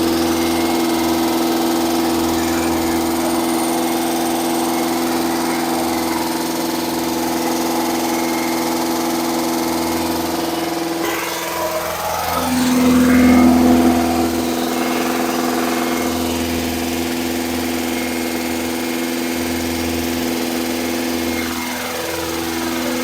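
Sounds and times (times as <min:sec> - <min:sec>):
engine running at speed: 0:00.0 - 0:23.0.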